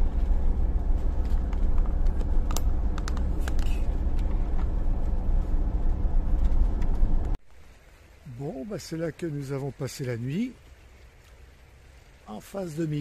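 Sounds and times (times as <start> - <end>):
road and engine rumble: 0.0 - 9.3, 10.5 - 12.4.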